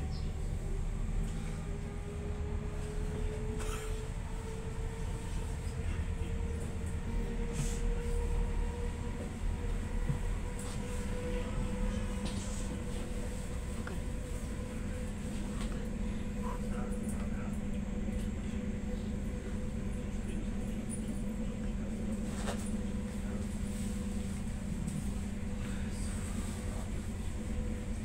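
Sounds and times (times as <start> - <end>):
train interior rumble and hum: 0.0 - 28.0.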